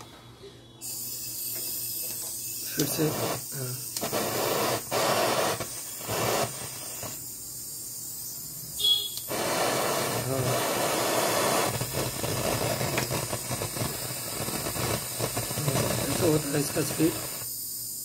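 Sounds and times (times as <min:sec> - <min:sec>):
soldering torch flame hiss: 0:00.8 - 0:18.0.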